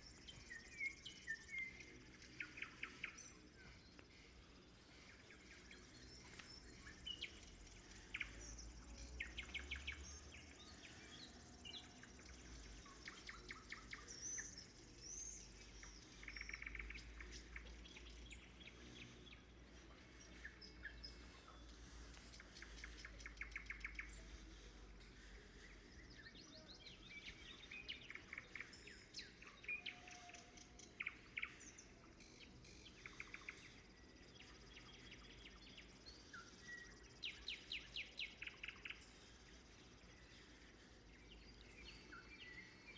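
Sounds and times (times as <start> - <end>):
nightingale singing: 0.0 - 42.9.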